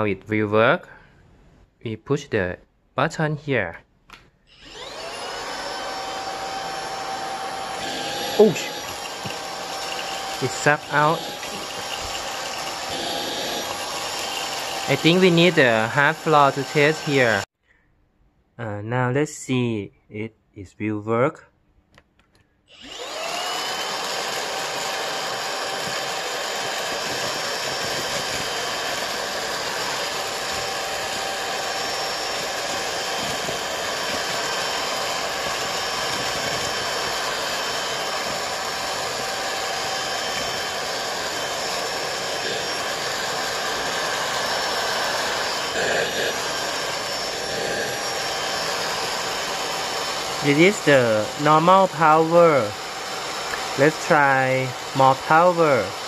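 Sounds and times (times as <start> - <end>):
vacuum motor whine: 4.5 - 17.5, 22.7 - 56.0.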